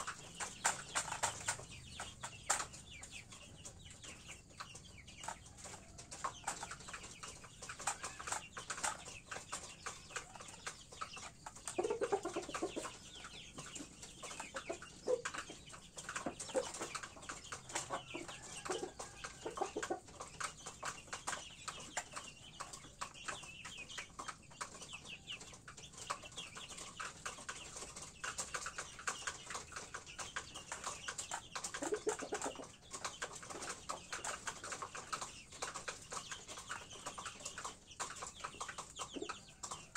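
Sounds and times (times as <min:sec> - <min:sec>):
beaks tapping on metal tray: 0:00.0 - 0:39.9
chickens clucking: 0:00.0 - 0:39.9.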